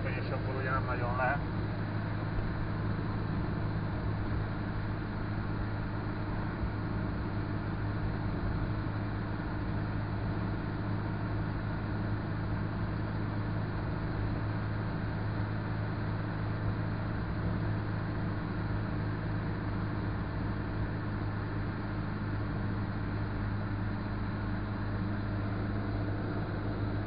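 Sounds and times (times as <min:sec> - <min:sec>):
car engine hum: 0:00.0 - 0:27.0.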